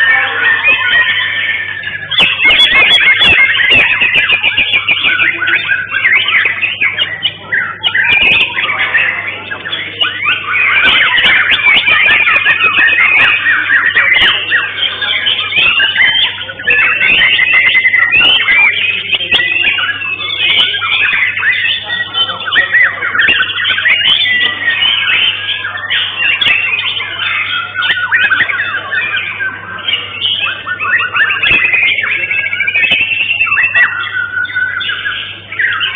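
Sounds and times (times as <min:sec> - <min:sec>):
birds singing whistling song: 0:00.0 - 0:35.9.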